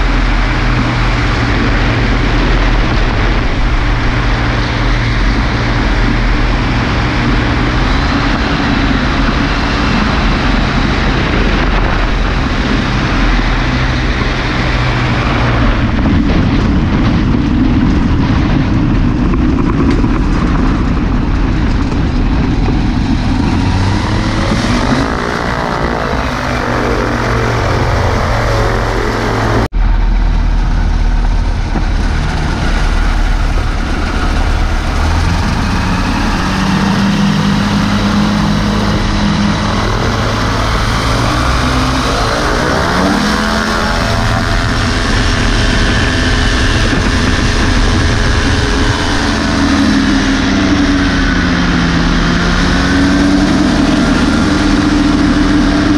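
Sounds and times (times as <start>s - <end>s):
microlight engine and propeller: 0.0s - 55.9s.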